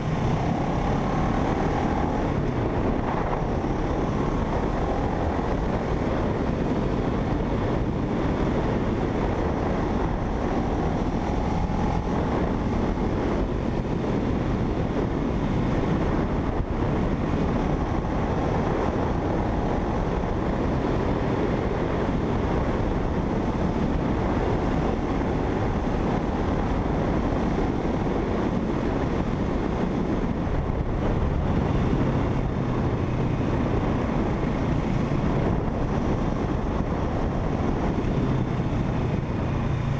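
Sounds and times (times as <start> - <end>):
motorcycle engine drone: 0.0 - 39.9
wind rush over microphone: 0.0 - 39.9.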